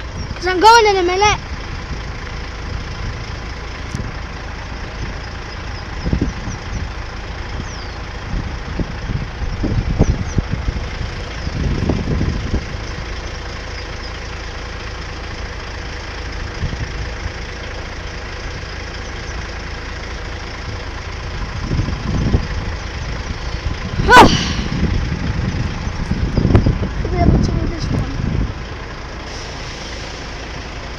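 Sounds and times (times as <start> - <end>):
vehicle engines idling: 0.0 - 30.9.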